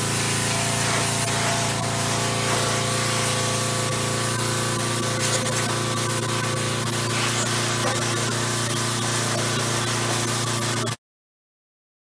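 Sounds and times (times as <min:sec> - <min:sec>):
machine humming: 0:00.0 - 0:11.0
pressure washer spray hissing: 0:00.0 - 0:11.0.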